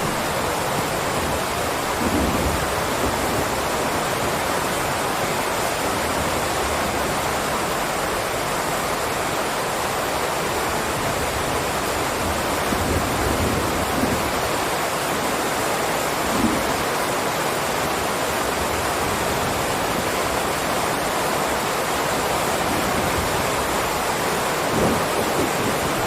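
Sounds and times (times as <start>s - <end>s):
heavy rainfall: 0.0s - 26.0s.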